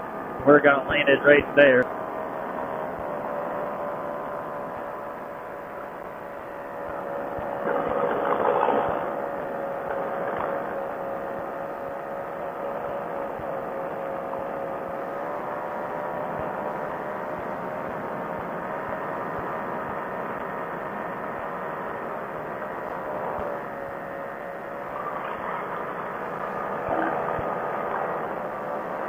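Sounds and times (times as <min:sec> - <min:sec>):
ultralight aircraft engine and propeller: 0:00.0 - 0:29.0.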